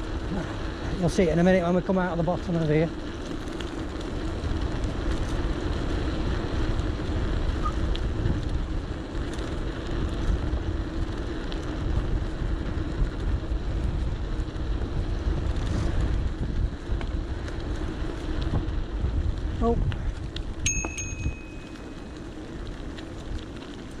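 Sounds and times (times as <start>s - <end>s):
electric bike humming: 0.0s - 24.0s
wind rumbling on microphone: 0.0s - 24.0s.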